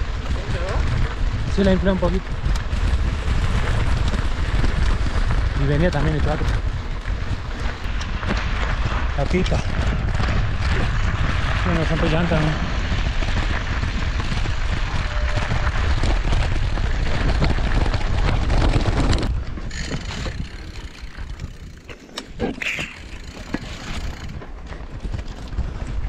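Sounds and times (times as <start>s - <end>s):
bike tyre and drivetrain noise: 0.0s - 26.0s
wind buffeting microphone: 0.0s - 26.0s.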